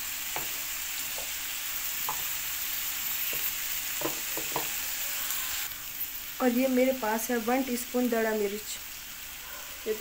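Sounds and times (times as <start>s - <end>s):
potatoes sizzling in oil: 0.0s - 10.0s.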